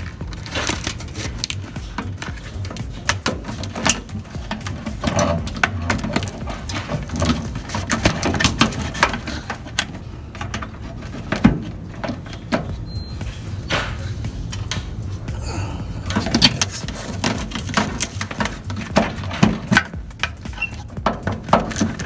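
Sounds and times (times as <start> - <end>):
tools clicking and knocking: 0.0 - 12.8, 16.0 - 22.0
steady low hum: 0.0 - 22.0.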